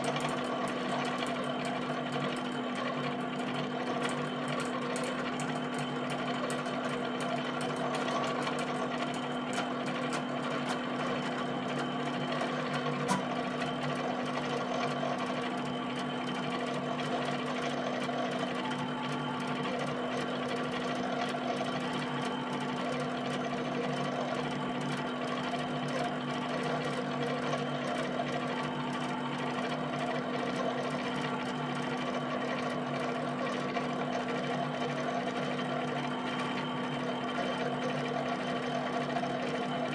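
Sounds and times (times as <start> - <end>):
plotter motor whine: 0.0 - 39.9.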